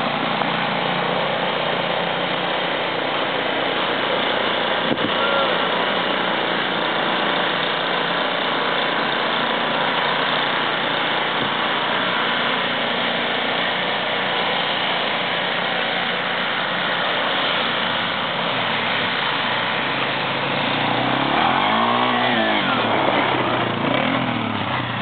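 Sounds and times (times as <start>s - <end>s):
atv engine revving: 0.0s - 25.0s
snowblower engine running: 0.0s - 25.0s.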